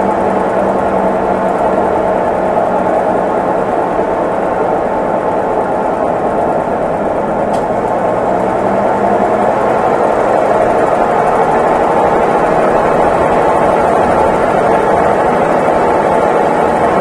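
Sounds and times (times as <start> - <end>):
washing machine churning: 0.0 - 17.0.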